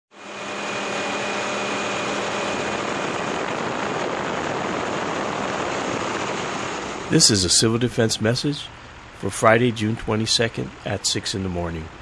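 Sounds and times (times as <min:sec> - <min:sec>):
faint steady whine: 0:00.2 - 0:12.0
helicopter engine and rotor noise: 0:00.2 - 0:12.0.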